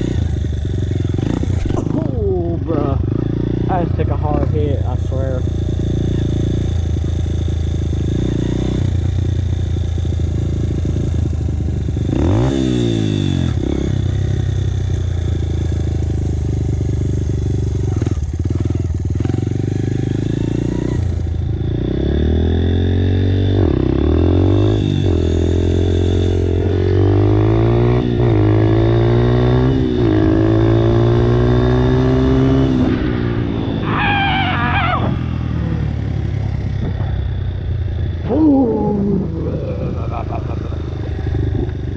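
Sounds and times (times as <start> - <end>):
dirt bike engine accelerating: 0.0 - 41.9.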